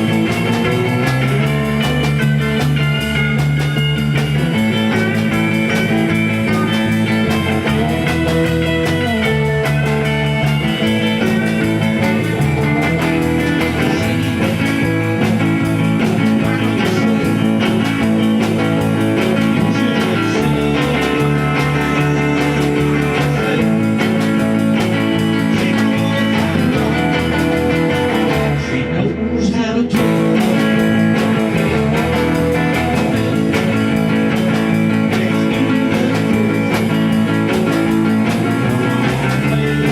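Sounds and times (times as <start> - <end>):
bass line: 0.0 - 39.9
guitar: 0.0 - 39.9
rock band playing: 0.0 - 39.9.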